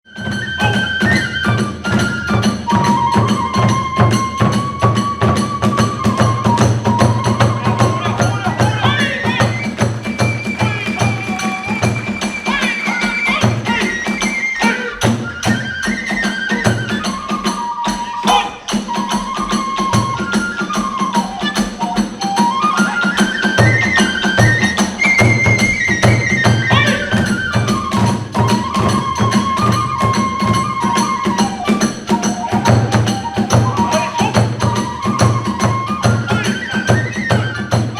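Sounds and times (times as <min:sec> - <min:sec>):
bamboo flute melody: 0:00.0 - 0:37.9
jangling hand cymbals: 0:00.1 - 0:37.9.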